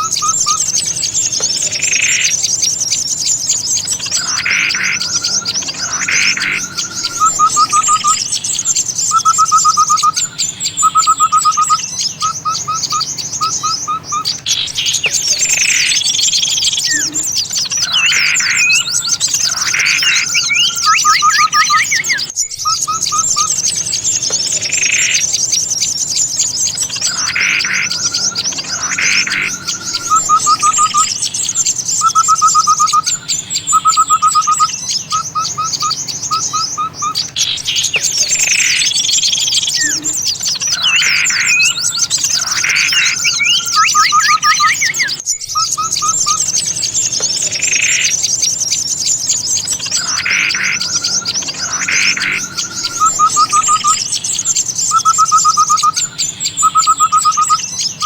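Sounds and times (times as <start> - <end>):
loud bird calls: 0.0 - 58.0
rapid bird trills: 0.0 - 58.0
songbirds chattering and twittering: 0.0 - 58.0.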